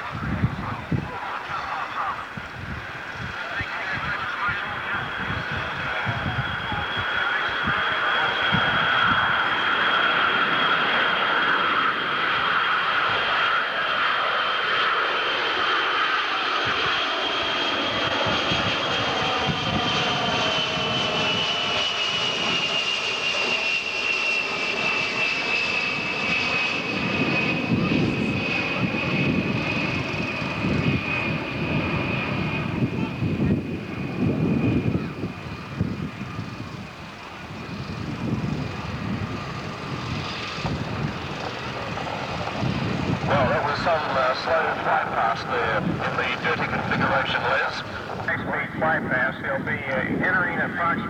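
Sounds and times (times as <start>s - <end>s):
deep jet rumble: 0.0s - 51.0s
jet engine whine: 0.0s - 51.0s.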